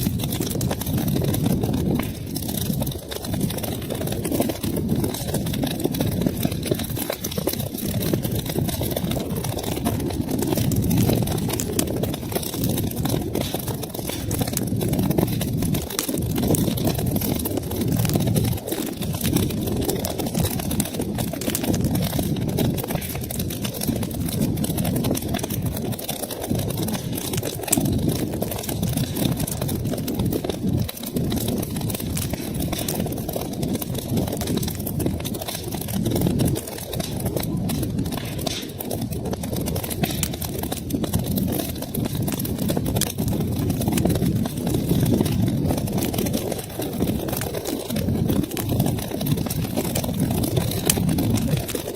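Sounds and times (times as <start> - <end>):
fire crackling and popping: 0.0 - 51.9
low rumble of flames: 0.0 - 51.9.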